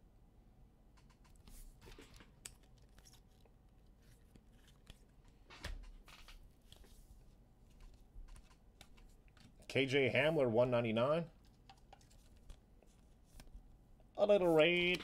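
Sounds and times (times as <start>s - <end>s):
trading cards shuffling and tapping: 1.0s - 10.4s, 11.4s - 13.6s, 14.4s - 15.0s.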